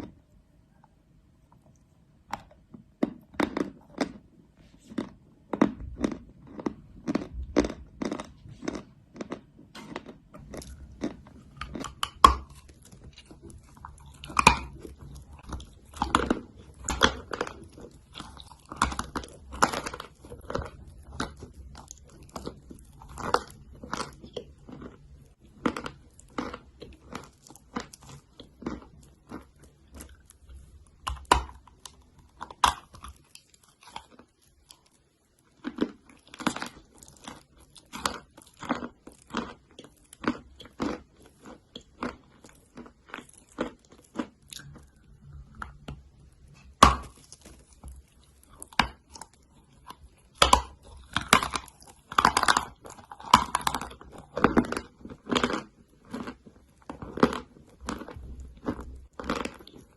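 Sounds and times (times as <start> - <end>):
chalk crunching as chewed: 2.4 - 59.9.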